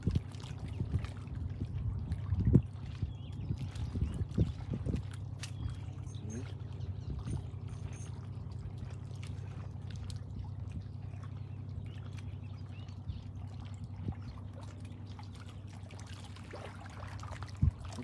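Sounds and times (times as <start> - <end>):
steady low hum: 0.0 - 18.0
water lapping and trickling: 0.0 - 18.0.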